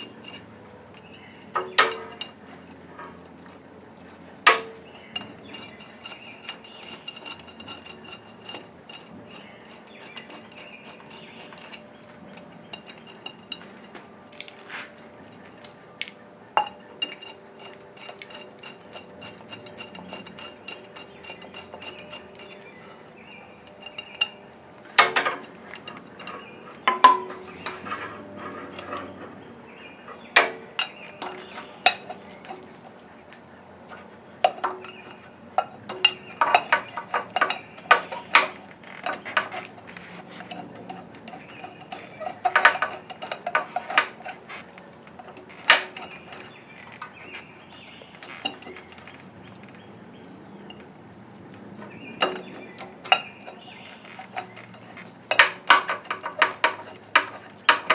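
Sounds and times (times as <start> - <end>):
metal tools clinking: 0.0 - 57.9.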